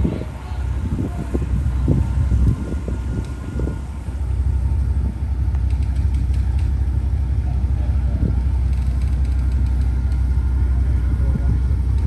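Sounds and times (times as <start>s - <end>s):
boat engines rumbling: 0.0s - 12.0s.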